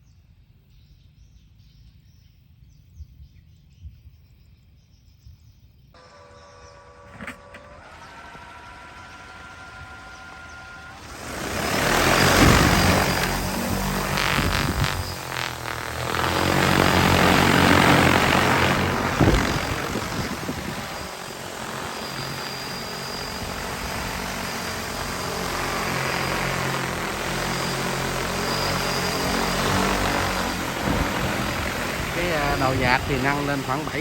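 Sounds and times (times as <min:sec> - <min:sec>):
drone rotors whirring: 0:06.0 - 0:34.0.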